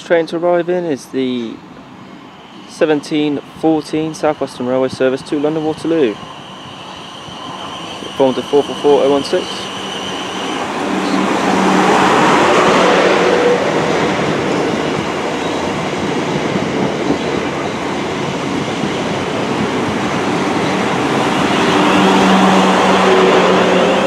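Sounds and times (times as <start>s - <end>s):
train wheels rumbling on rail: 0.0s - 24.0s
electric train hum: 1.4s - 24.0s.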